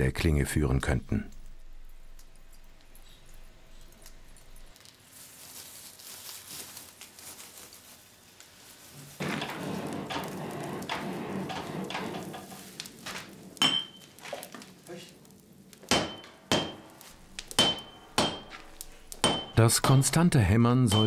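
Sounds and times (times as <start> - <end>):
forge fire crackling and hissing: 0.0 - 20.7.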